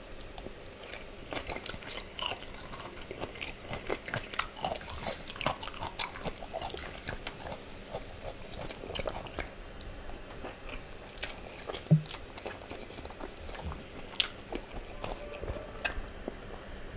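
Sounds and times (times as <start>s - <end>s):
man chewing food: 0.0s - 16.9s.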